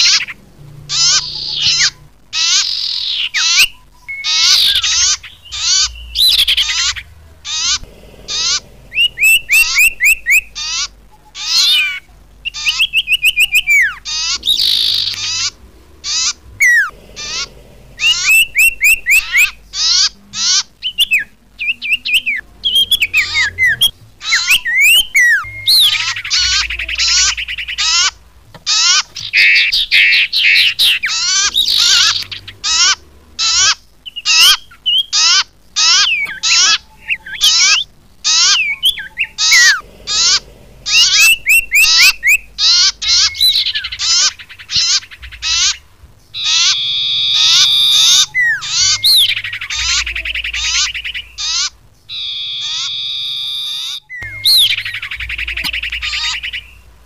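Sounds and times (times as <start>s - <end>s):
bird whistled chirps and trills: 0.0s - 45.8s, 46.4s - 56.9s.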